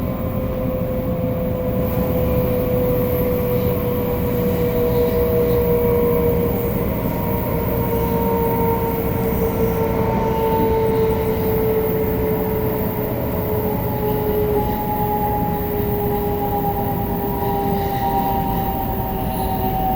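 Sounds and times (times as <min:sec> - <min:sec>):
train traction inverter whine: 0:00.0 - 0:19.9
wheels rumbling on rail: 0:00.0 - 0:19.9.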